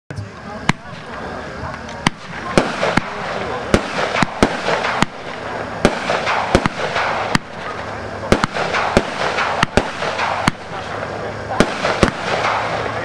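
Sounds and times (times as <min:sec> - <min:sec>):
hissing crackle of burning stars: 0:00.3 - 0:13.0
firework bangs: 0:00.6 - 0:13.0.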